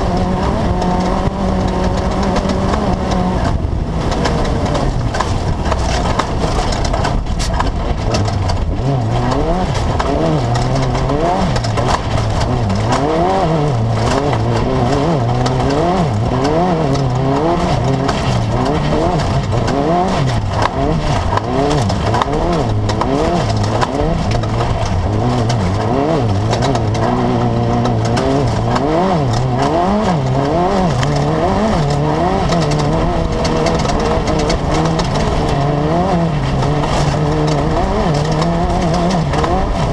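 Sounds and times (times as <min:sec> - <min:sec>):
buggy engine revving hard: 0:00.0 - 0:39.9.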